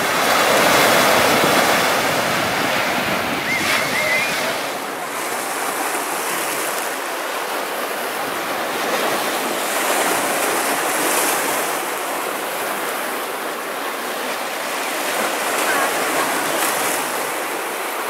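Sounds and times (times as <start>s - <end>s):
waves splashing on rocks: 0.0s - 18.0s.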